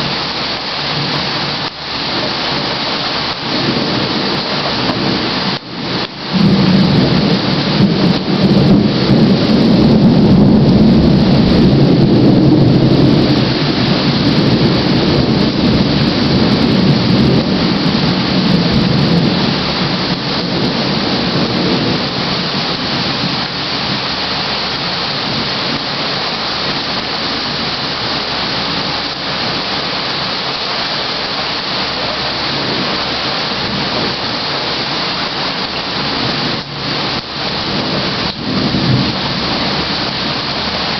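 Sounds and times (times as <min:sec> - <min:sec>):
heavy rain hiss: 0:00.0 - 0:40.9
thunder rumbling: 0:00.0 - 0:40.9.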